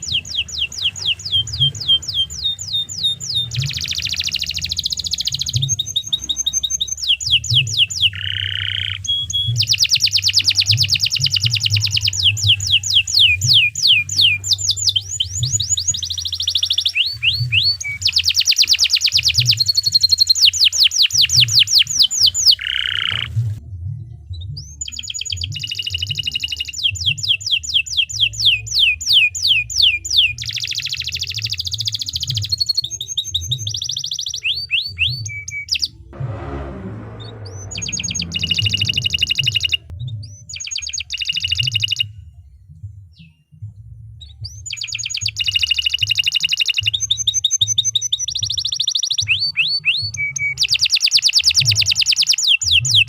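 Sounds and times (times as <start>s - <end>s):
canary singing trills: 0.0s - 23.6s, 24.4s - 36.1s, 37.2s - 42.1s, 44.2s - 53.0s.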